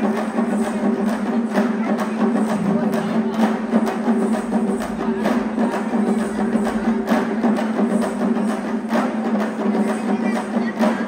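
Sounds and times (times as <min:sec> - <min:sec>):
frame drums beaten with sticks: 0:00.0 - 0:11.0.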